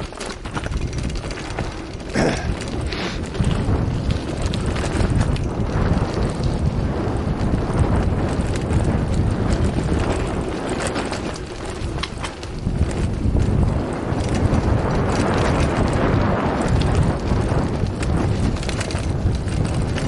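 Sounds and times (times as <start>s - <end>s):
bike clicks and rattles: 0.0s - 20.0s
tyres crunching on gravel: 0.0s - 20.0s
wind buffeting microphone: 0.0s - 20.0s.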